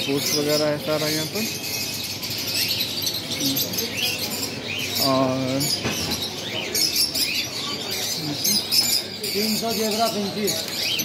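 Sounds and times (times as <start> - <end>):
small birds chirping and chattering: 0.0 - 11.0.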